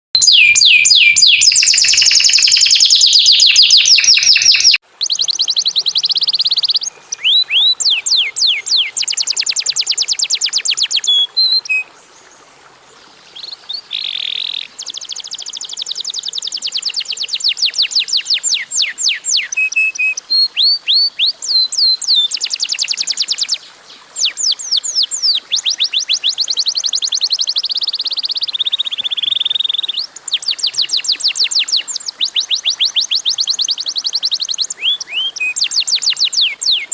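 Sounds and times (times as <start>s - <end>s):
canary singing trills: 0.2s - 11.9s, 13.4s - 23.6s, 24.2s - 36.9s.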